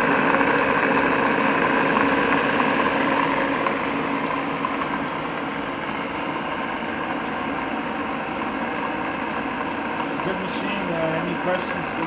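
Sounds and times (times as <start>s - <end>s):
lathe mechanical hum: 0.0s - 12.0s.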